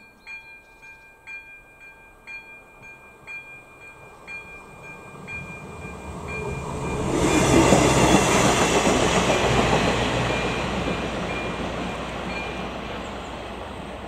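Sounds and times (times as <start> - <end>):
crossing warning bell ringing: 0.0 - 13.2
diesel railcar passing: 0.2 - 14.0.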